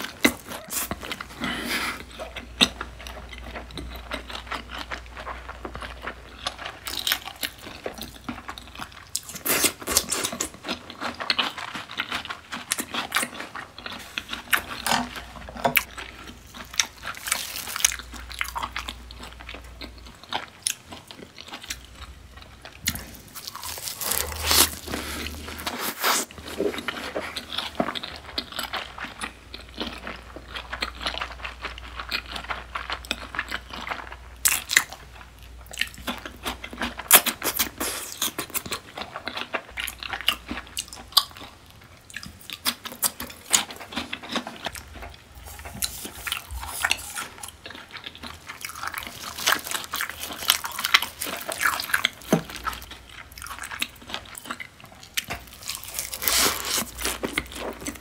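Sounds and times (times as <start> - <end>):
crunchy chewing and biting: 0.0 - 58.0.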